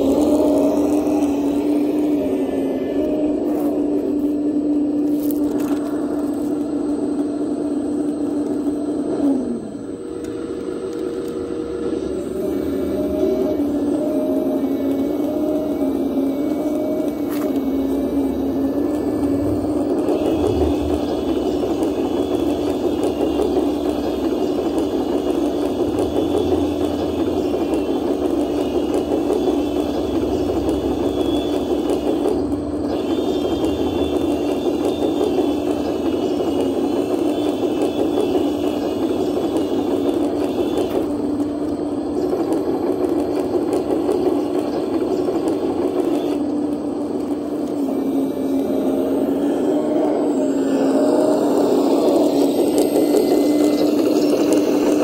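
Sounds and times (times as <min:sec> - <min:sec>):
electric motors droning: 0:00.0 - 0:55.0
high mechanical whine: 0:00.0 - 0:55.0.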